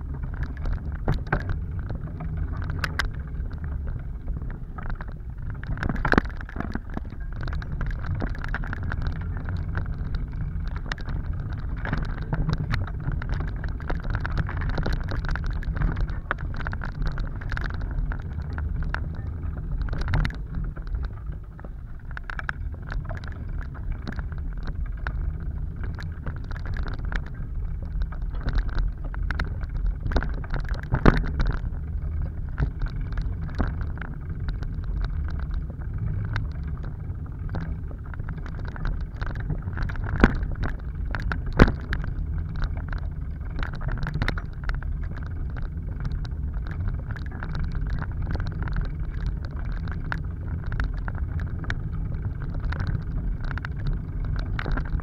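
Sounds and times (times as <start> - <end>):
bicycle clicks and rattles: 0.0 - 55.0
wind rumbling on microphone: 0.0 - 55.0.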